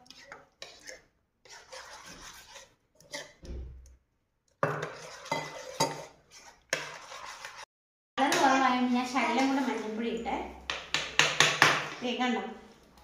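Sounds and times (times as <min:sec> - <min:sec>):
spoon stirring batter: 0:00.0 - 0:12.0.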